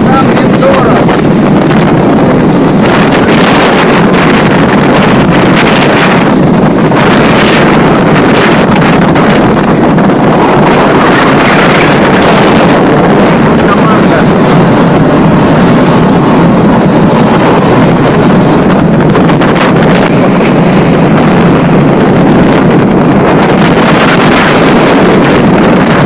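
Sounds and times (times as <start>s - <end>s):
boat motor running: 0.0s - 26.0s
waves and spray against hull: 0.0s - 26.0s
wind buffeting microphone: 0.0s - 26.0s.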